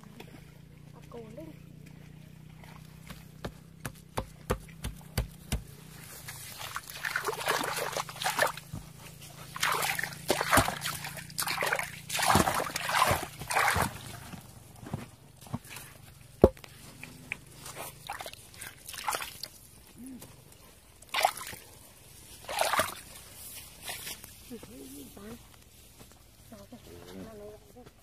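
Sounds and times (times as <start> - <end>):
water splashing and sloshing: 0.0 - 25.9.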